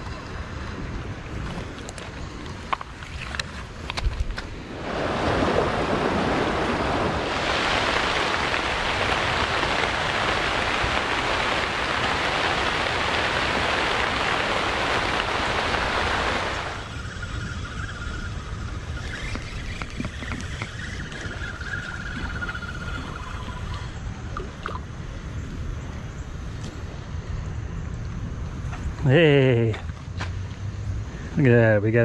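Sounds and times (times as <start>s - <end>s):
steady hiss of water: 0.0s - 27.9s.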